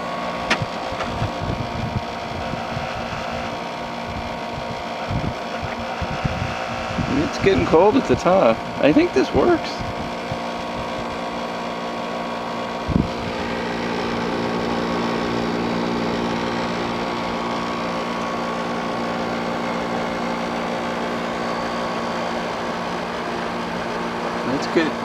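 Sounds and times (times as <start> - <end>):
dehumidifier humming: 0.0 - 25.0.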